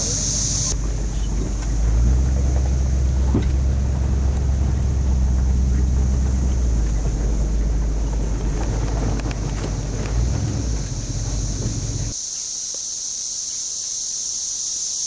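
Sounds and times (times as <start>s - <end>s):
vehicle engine and road rumble: 0.0s - 13.0s
cicada chorus buzzing: 0.0s - 15.0s.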